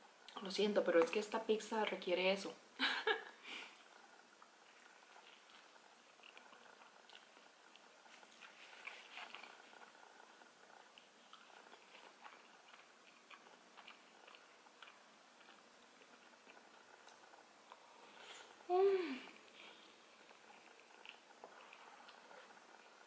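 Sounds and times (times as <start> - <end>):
close-up chewing: 3.6 - 23.0.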